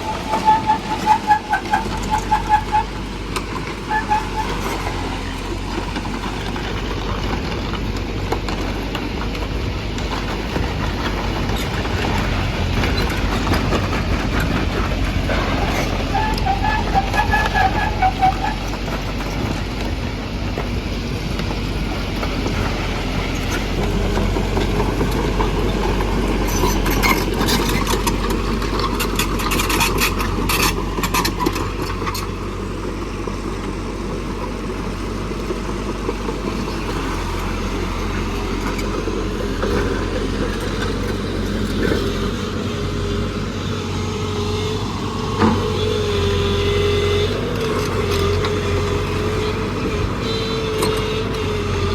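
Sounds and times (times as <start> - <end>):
excavator engine humming: 0.0 - 51.9.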